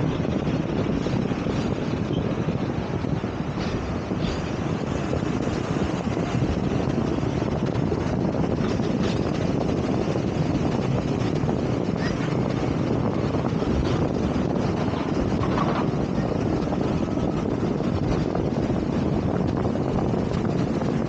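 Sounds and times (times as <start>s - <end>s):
tram rumbling on track: 0.0s - 21.0s
wind buffeting microphone: 0.0s - 21.0s.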